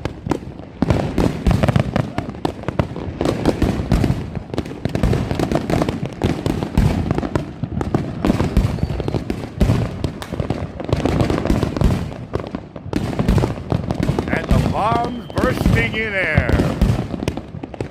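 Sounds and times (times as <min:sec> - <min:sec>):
firecrackers cracking and banging: 0:00.0 - 0:17.9
rumble of distant fireworks: 0:00.0 - 0:17.9.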